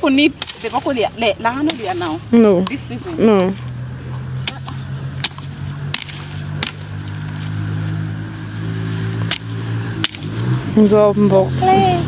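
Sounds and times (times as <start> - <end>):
machete chopping plant stems: 0.0 - 11.2
engine droning: 0.0 - 12.0.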